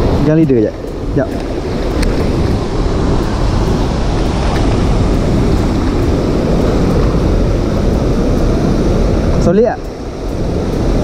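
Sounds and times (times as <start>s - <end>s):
water rushing from dam spillway: 0.0s - 11.0s.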